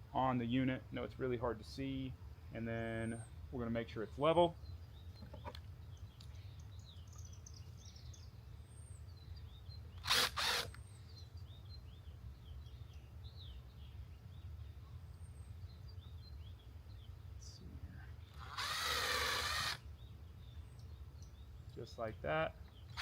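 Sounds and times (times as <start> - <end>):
small birds chirping: 0.5 - 23.0.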